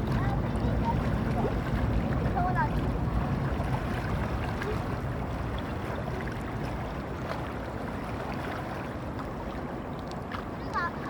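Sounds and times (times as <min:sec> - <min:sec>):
river waves lapping: 0:00.0 - 0:11.0.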